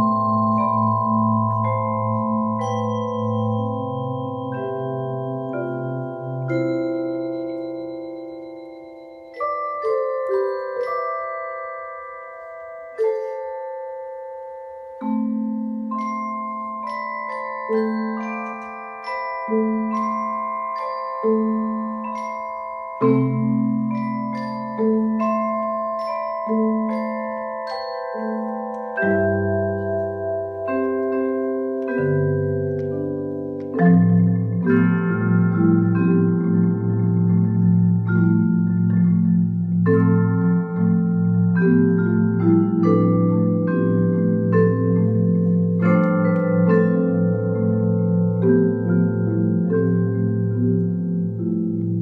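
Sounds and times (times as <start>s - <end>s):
marimba ensemble playing: 0.0s - 52.0s.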